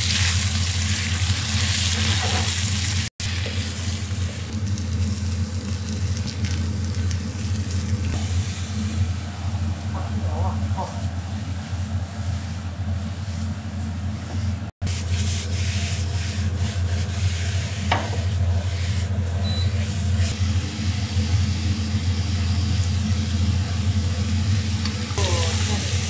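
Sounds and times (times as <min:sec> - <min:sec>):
eggplant sizzling in a wok: 0:00.0 - 0:12.5, 0:14.9 - 0:26.0.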